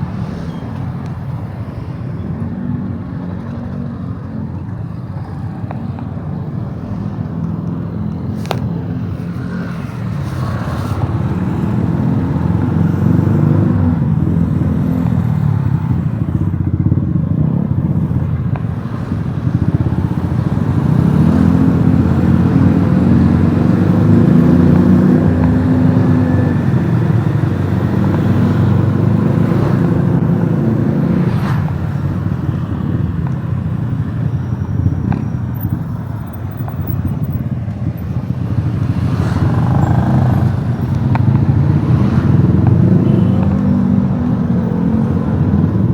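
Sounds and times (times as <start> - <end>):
road and wind noise: 0.0 - 45.9
motorcycle engine revving: 2.4 - 45.9.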